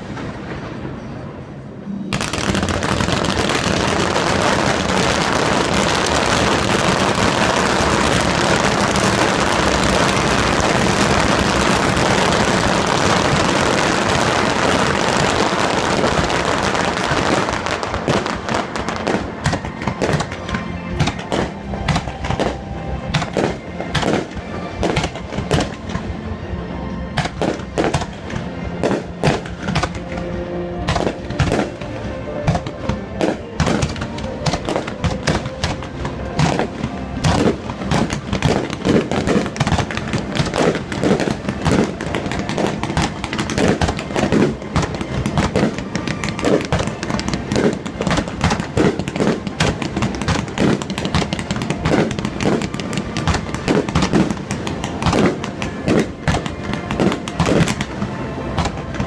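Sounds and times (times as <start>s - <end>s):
fireworks bursting: 0.0s - 26.4s, 27.0s - 59.0s
music: 0.0s - 59.0s.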